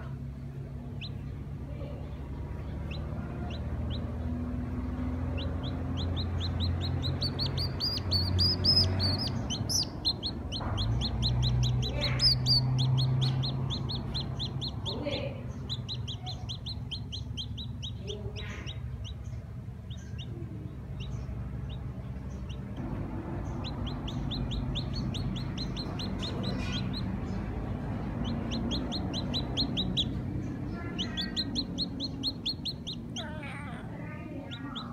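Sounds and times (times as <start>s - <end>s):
chick peeping: 0.0s - 34.9s
steady low hum: 0.0s - 34.9s.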